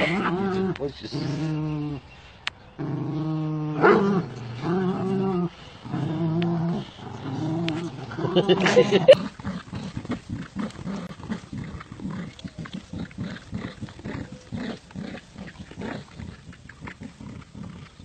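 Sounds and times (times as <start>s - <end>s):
dogs growling: 0.0s - 18.0s.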